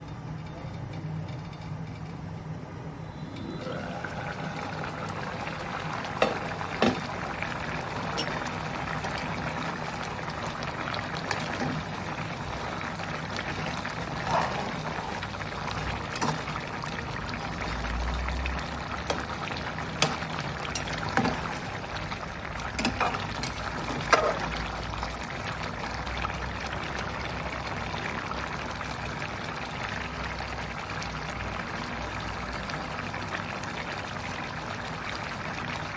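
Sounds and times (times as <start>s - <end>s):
curry bubbling and sizzling: 0.0s - 35.9s.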